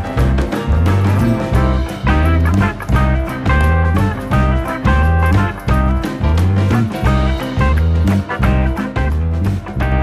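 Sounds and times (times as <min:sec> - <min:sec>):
instrumental music with bass beat: 0:00.0 - 0:10.0.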